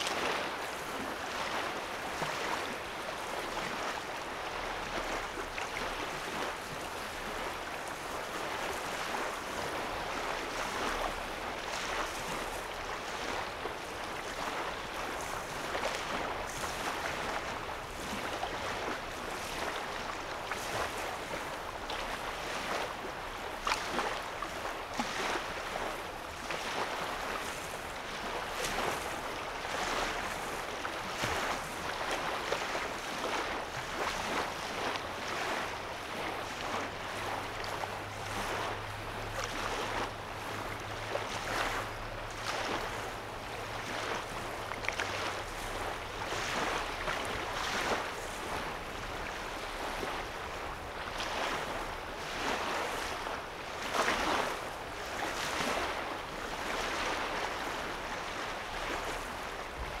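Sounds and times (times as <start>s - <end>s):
waves lapping on shore: 0.0s - 60.0s.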